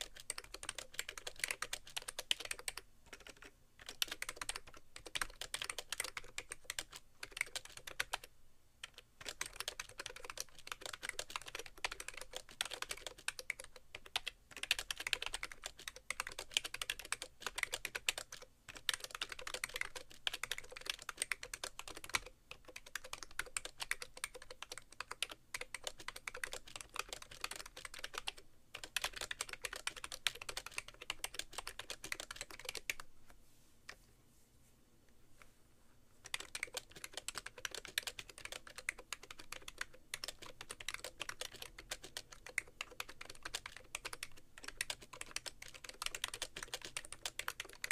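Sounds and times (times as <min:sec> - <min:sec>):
fast typing on keyboard: 0:00.0 - 0:33.0, 0:36.2 - 0:47.9.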